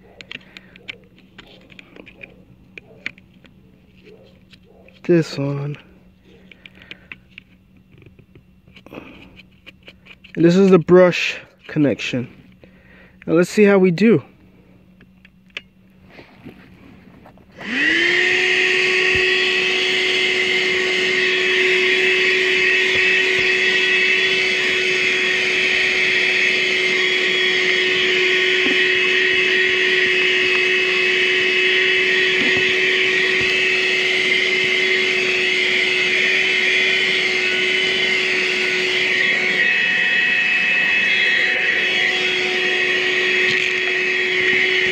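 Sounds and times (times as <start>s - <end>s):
car vacuum motor whining: 0.0s - 14.2s, 15.6s - 44.9s.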